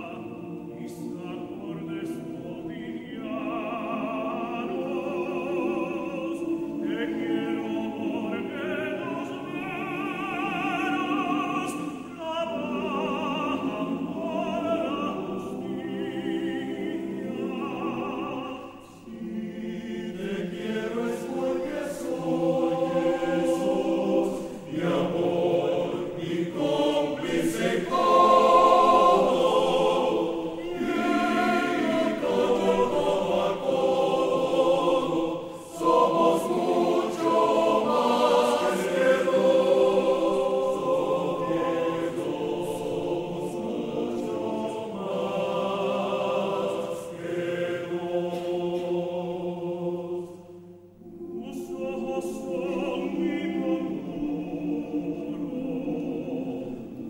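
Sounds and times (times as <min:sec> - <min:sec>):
men's choir singing: 0:00.0 - 0:57.0.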